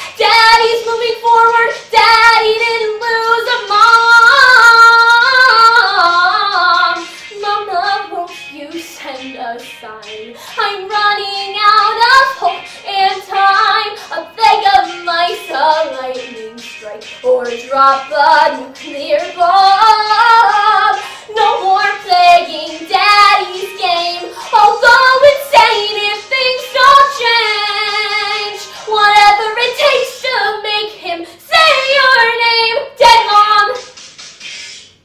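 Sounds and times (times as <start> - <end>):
girl singing: 0.0 - 33.9.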